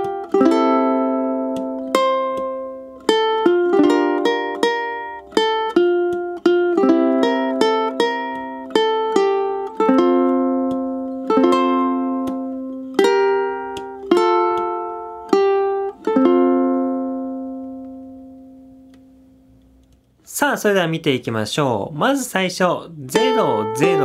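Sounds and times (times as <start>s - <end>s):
ukulele fingerstyle playing: 0.0s - 20.1s, 23.0s - 24.0s.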